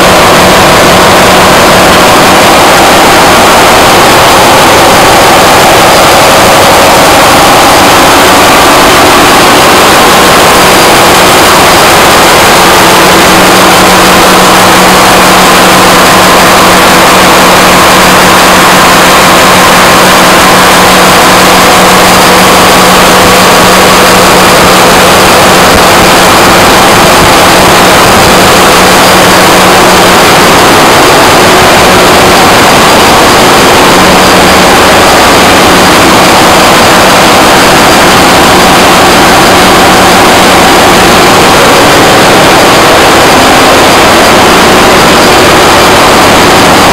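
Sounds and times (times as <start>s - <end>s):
diesel generators running: 0.0s - 46.9s
engine room machinery noise: 0.0s - 46.9s
steady hum: 0.0s - 46.9s.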